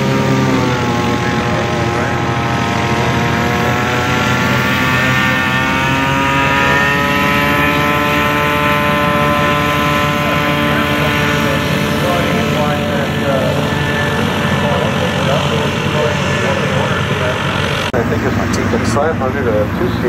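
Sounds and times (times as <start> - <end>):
light aircraft engine and propeller: 0.0 - 20.0.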